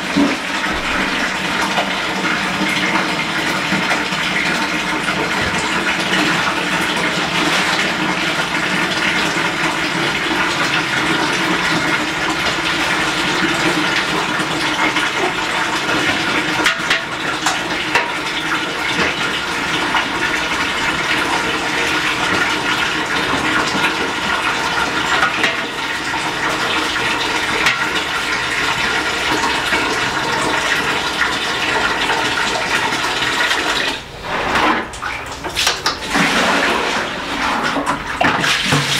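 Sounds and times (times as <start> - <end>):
water running into plastic bucket: 0.0 - 38.9.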